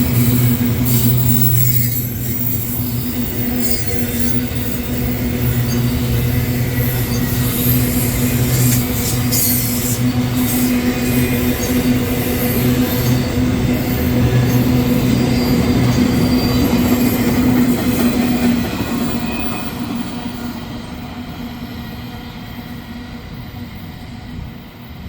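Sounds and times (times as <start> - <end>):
freight train rumbling by: 0.0 - 25.0.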